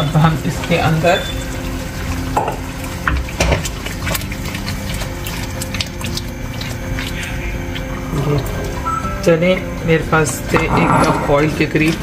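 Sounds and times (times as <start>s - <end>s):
sauce sizzling in a wok: 0.0s - 12.0s.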